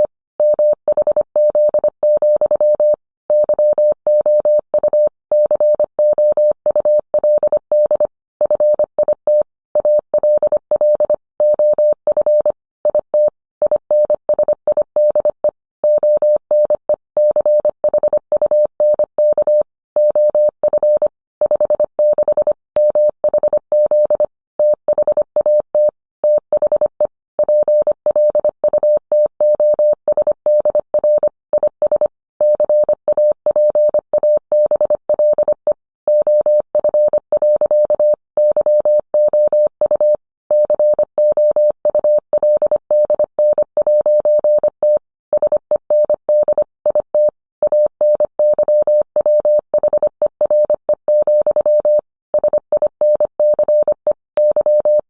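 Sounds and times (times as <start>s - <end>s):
morse code beeps: 0.0s - 55.0s.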